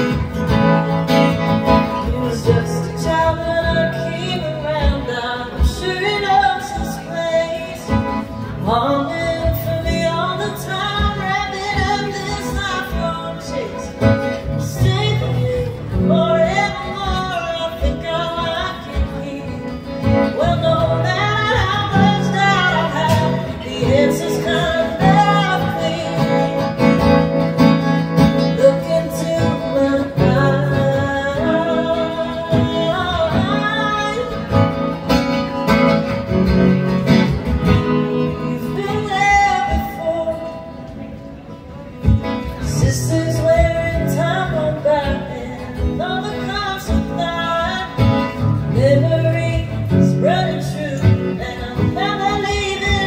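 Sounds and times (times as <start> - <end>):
woman singing: 0.0 - 35.1, 37.8 - 41.2, 42.0 - 53.0
acoustic guitar: 0.0 - 53.0.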